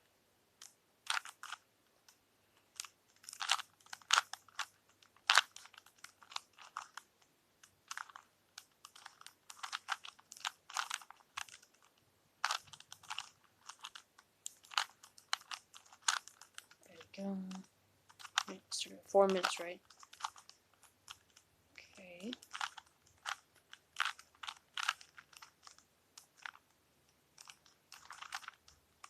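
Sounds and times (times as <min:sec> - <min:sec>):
puzzle cube plastic clicks: 0:00.6 - 0:29.0.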